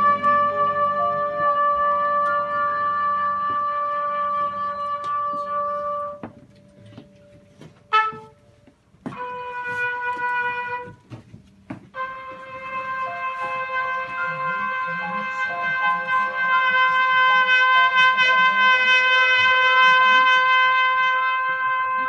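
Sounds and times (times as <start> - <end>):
trumpet playing long notes: 0.0 - 6.8, 7.8 - 11.3, 11.9 - 22.0.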